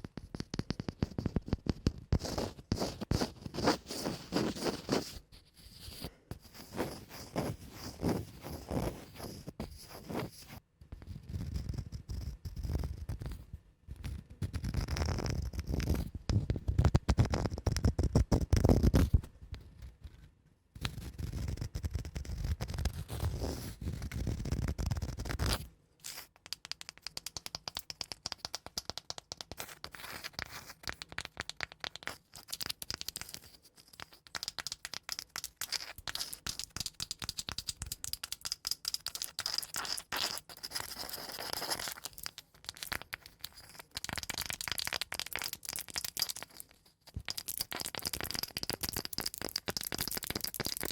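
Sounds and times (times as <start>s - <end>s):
scratching on cork and wood: 0.2s - 10.6s, 11.3s - 13.4s, 14.0s - 19.3s, 20.8s - 50.9s.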